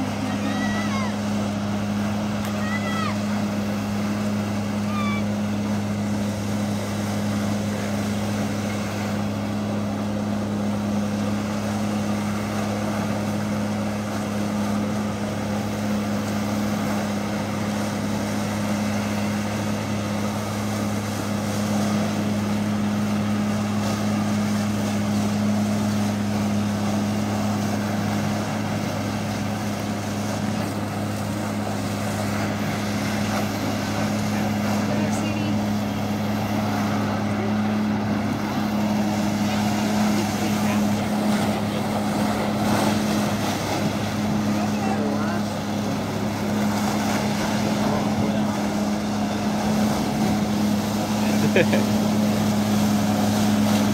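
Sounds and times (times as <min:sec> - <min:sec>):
jet ski engine running: 0:00.0 - 0:53.9
water jets spraying onto lake: 0:00.0 - 0:53.9.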